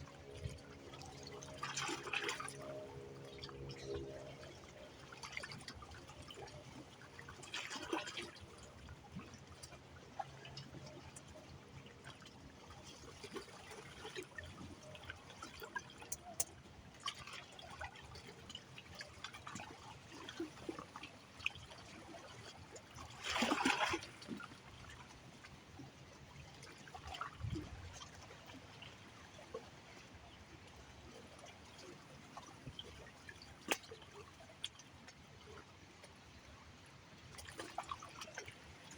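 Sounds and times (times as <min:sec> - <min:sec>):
shallow water lapping and trickling: 0:00.0 - 0:38.9
small water splashes: 0:00.0 - 0:38.9
water washing ashore: 0:00.0 - 0:38.9.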